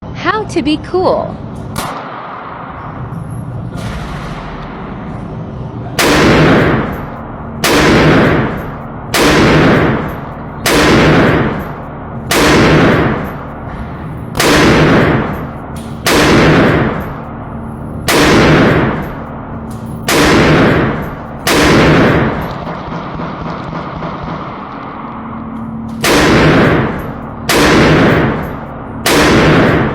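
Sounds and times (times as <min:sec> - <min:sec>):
gunshots echoing indoors: 0:01.7 - 0:29.9.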